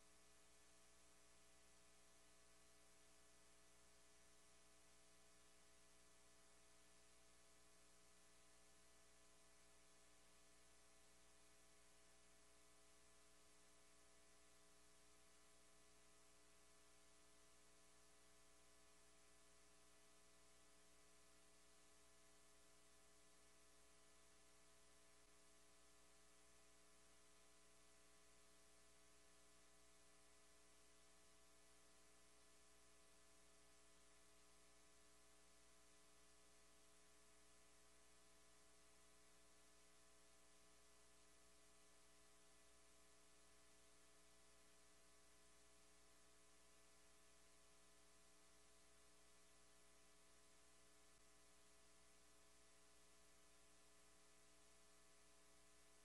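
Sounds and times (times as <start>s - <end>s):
faint electrical hum: 0.0s - 56.0s.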